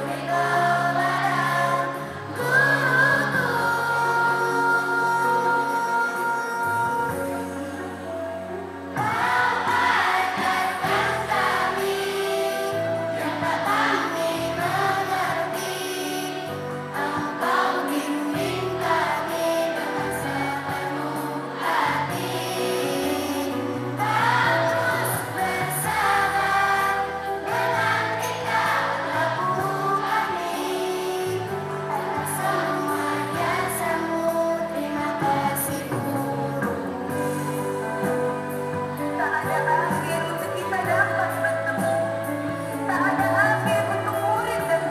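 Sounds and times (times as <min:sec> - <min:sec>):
children singing in unison: 0:00.0 - 0:08.2, 0:08.9 - 0:39.0
instrumental accompaniment: 0:03.9 - 0:44.9.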